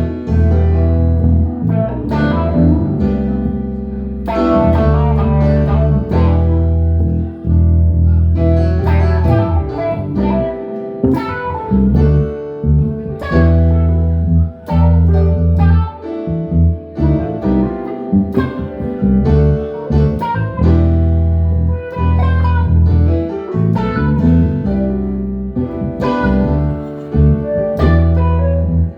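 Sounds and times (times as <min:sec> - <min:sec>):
deep sustained bass notes: 0:00.0 - 0:28.9
plucked guitar notes: 0:00.0 - 0:28.9.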